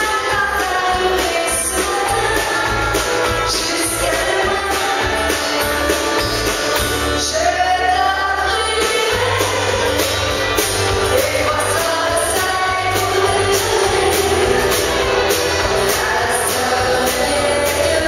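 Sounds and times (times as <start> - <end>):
electric bass: 0.0 - 18.0
woman singing into a microphone: 0.0 - 18.0.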